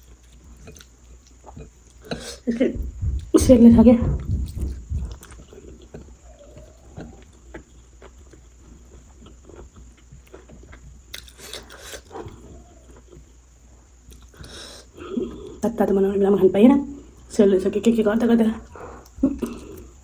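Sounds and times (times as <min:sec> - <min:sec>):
soft chewing with mouth clicks: 0:00.0 - 0:03.4, 0:04.1 - 0:15.6, 0:18.6 - 0:20.0.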